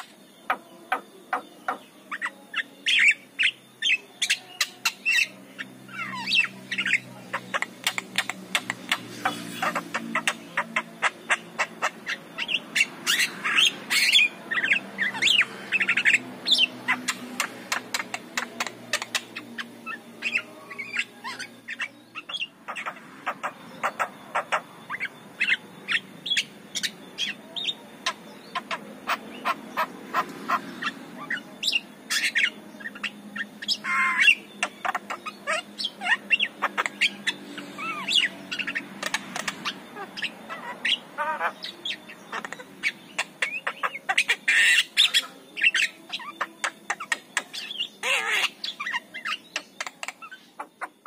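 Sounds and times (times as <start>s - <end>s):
myna bird chattering song: 0.0s - 51.0s.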